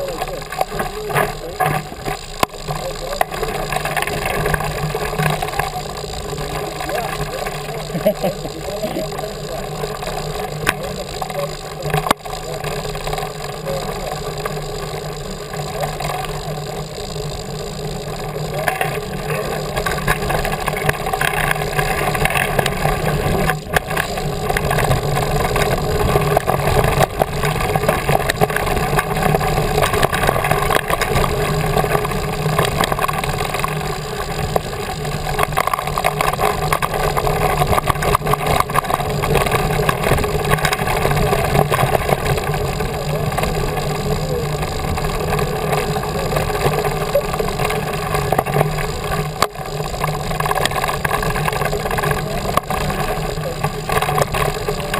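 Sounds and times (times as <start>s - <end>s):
bike rattling and knocking: 0.0s - 54.9s.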